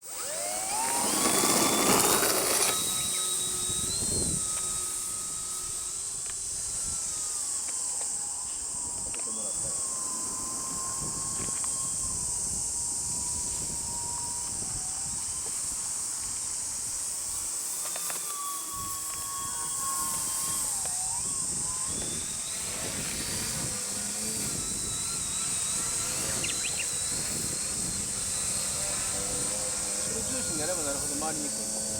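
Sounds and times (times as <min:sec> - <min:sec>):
electric motor and propeller whining: 0:00.0 - 0:31.9.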